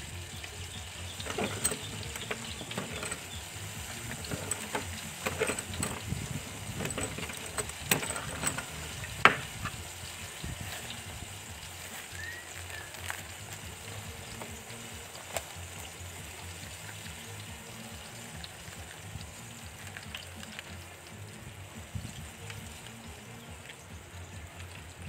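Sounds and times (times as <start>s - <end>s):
deep-frying sizzle: 0.0s - 25.0s
oil popping and clicking: 0.0s - 25.0s.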